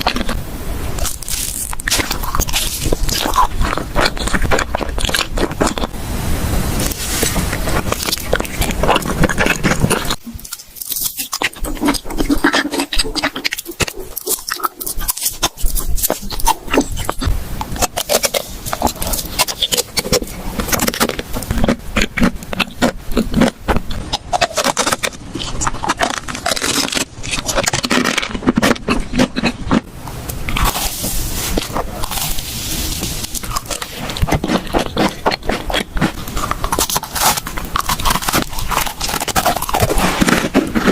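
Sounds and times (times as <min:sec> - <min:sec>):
crunchy biting and chewing: 0:00.0 - 0:40.9
wet mouth noises: 0:00.0 - 0:40.9.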